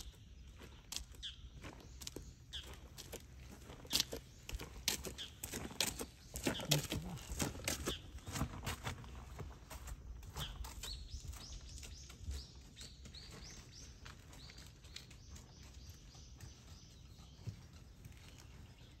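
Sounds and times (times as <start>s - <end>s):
bird chirping: 0.0s - 9.1s, 10.2s - 19.0s.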